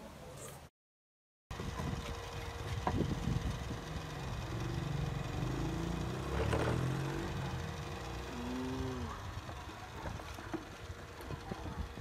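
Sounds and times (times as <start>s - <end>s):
small engine running: 1.5s - 12.0s.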